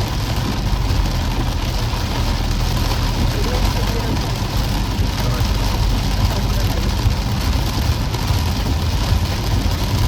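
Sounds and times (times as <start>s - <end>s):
rain hissing: 0.0s - 10.0s
road and engine rumble: 0.0s - 10.0s.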